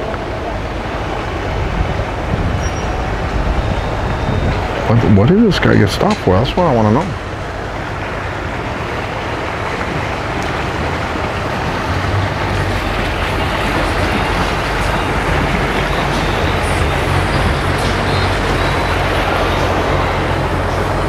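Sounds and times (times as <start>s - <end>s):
outboard boat engines rumbling: 0.0s - 21.0s.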